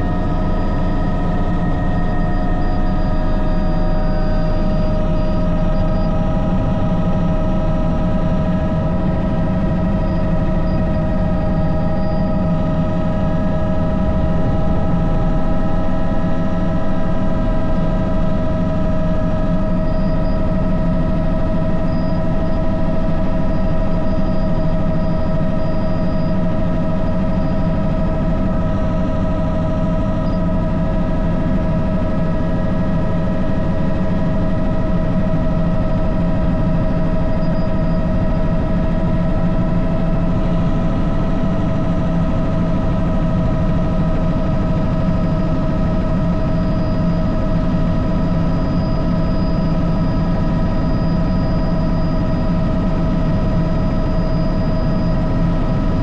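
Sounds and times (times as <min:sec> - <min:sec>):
helicopter rotor rumble: 0:00.0 - 0:56.0
helicopter turbine whine: 0:00.0 - 0:56.0.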